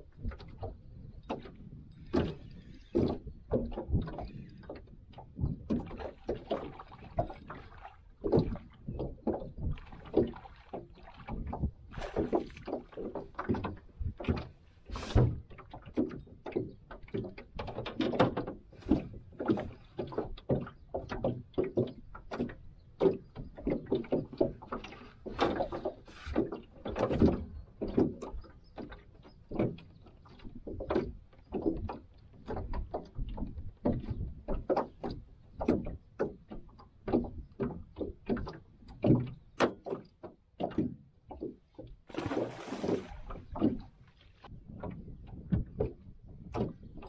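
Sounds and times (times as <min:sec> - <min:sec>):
water slapping against metal hull: 0:00.0 - 0:47.0.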